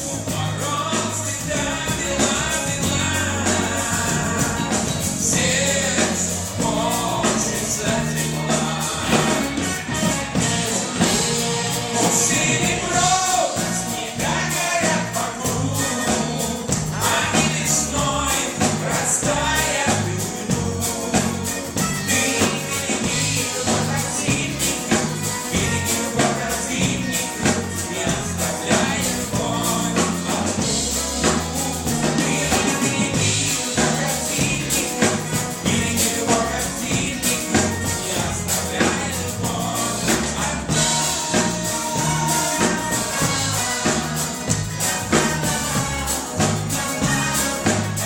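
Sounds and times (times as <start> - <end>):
live pop band playing: 0.0 - 48.0
person singing: 0.0 - 48.0.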